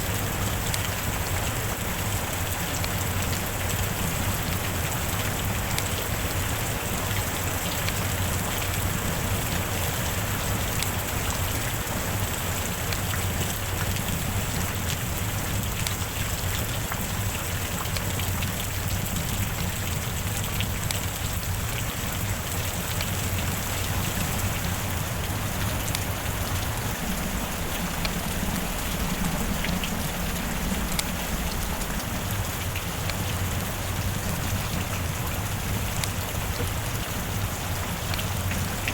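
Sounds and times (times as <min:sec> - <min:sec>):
heavy rain hissing: 0:00.0 - 0:38.9
raindrops ticking: 0:00.0 - 0:38.9.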